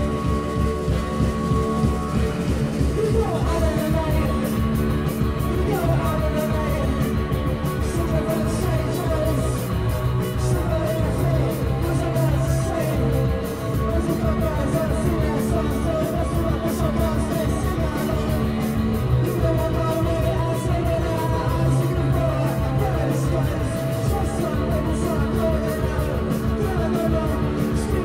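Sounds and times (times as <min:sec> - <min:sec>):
bass guitar: 0:00.0 - 0:28.0
electric guitars: 0:00.0 - 0:28.0
fast steady drumbeat: 0:00.0 - 0:28.0
person singing: 0:00.0 - 0:28.0.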